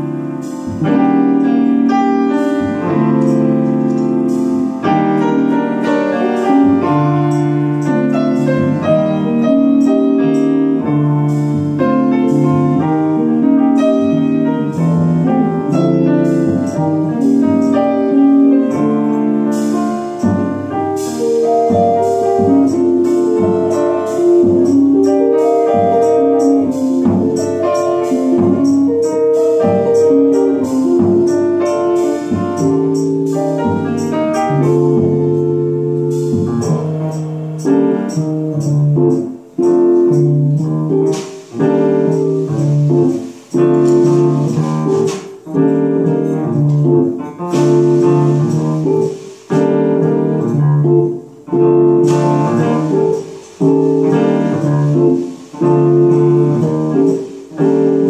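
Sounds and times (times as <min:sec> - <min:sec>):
drum kit cymbals and drums: 0:00.0 - 0:58.0
electric guitar: 0:00.0 - 0:58.0
piano runs and chords: 0:00.0 - 0:58.0.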